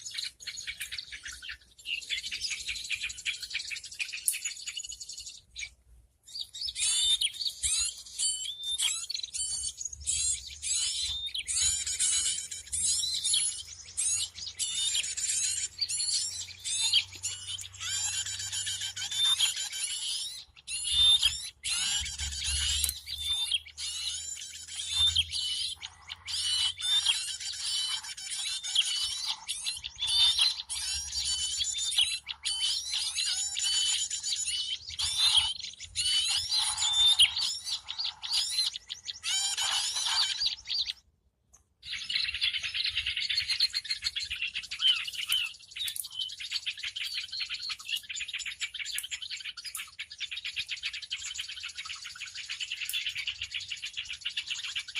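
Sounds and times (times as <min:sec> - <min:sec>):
many small birds chirping: 0:00.0 - 0:54.9.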